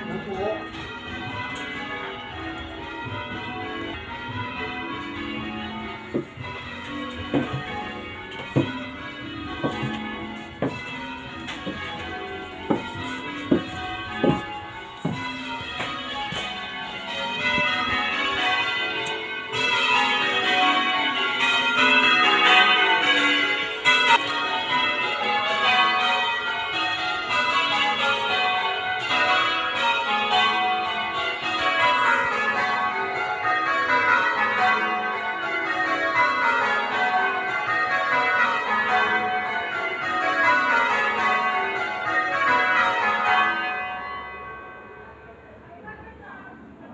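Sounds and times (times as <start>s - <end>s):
church bells change ringing: 0.0s - 46.8s.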